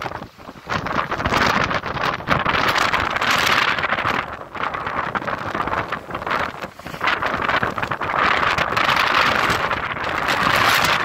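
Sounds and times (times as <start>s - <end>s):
gusty wind buffeting microphone: 0.0s - 11.0s.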